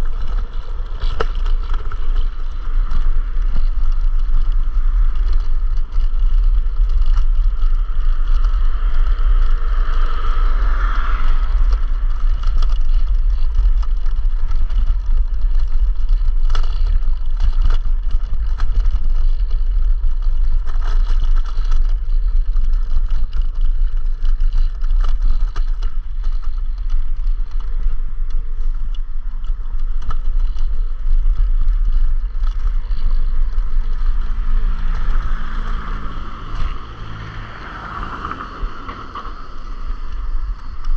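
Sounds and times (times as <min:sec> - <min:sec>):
scooter running noise: 0:00.0 - 0:40.9
wind buffeting microphone: 0:00.0 - 0:40.9.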